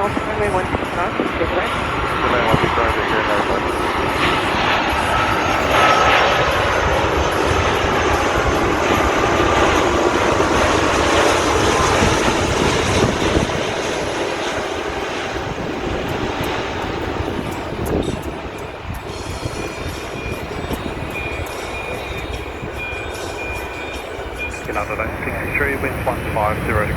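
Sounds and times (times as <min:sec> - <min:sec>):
jet airliner engines landing: 0:00.0 - 0:26.9.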